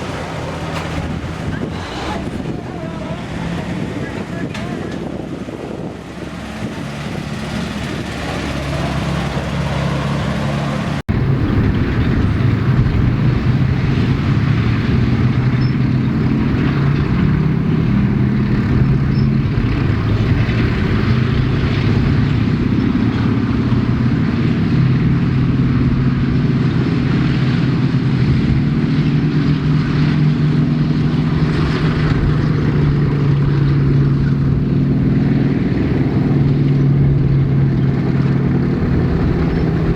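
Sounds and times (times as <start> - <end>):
heavy vehicle engine humming: 0.0 - 39.9.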